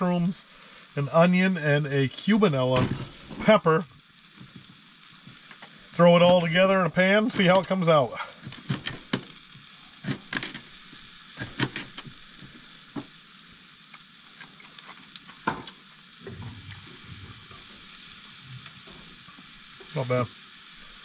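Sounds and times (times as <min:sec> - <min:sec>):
mushrooms sizzling in a frying pan: 0:00.0 - 0:21.0.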